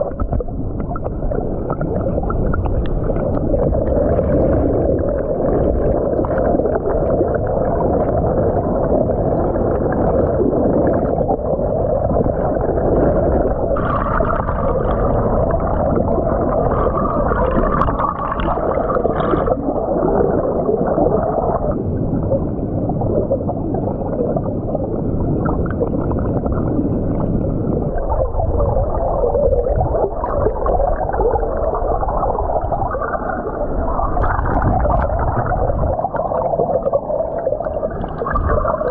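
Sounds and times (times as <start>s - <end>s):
muffled underwater stream rush: 0.0s - 38.9s.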